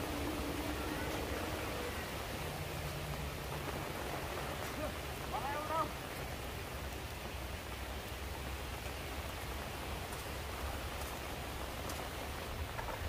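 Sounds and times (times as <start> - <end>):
light rain hissing: 0.0 - 13.0.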